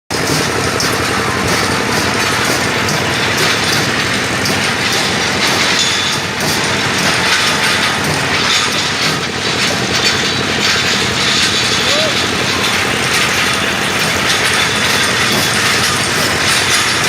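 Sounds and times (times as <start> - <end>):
rebar bending machine rattling: 0.1 - 17.0.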